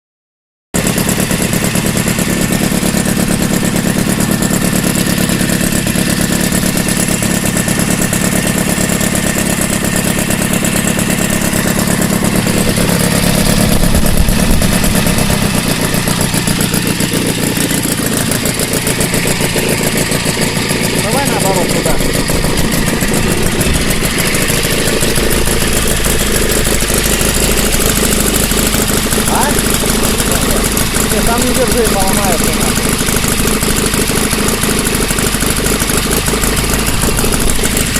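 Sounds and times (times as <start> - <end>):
model aircraft engine running: 0.8 - 37.9.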